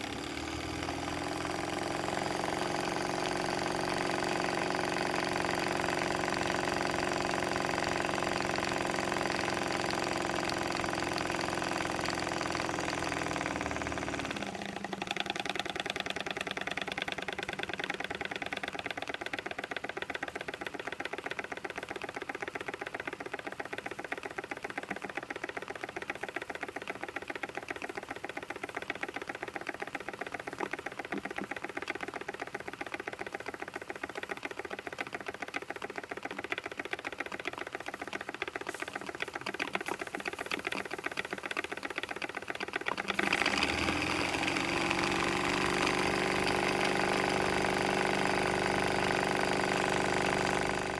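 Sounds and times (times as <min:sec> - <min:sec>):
model steam engine ticking: 0:00.0 - 0:50.9.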